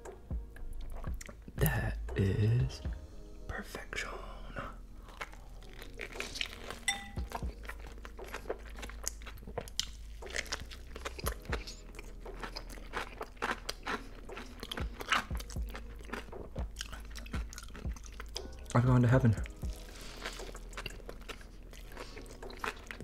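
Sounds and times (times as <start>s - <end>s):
crunching and chewing food: 0.6s - 1.6s, 5.0s - 23.0s.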